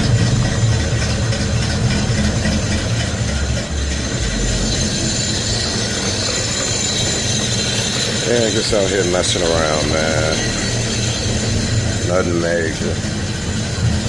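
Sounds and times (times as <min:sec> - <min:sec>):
faint high whine: 0:00.0 - 0:14.0
low mechanical rumble: 0:00.0 - 0:14.0.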